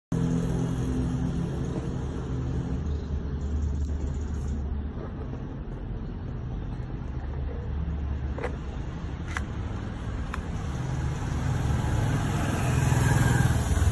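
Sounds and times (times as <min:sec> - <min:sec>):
engine hum: 0:00.1 - 0:13.9
vehicle engine rumbling: 0:00.1 - 0:13.9.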